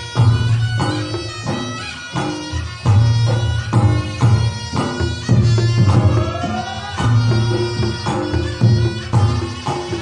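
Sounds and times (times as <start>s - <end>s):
hand drum strokes: 0.0s - 10.0s
reedy wind instrument melody: 0.0s - 10.0s.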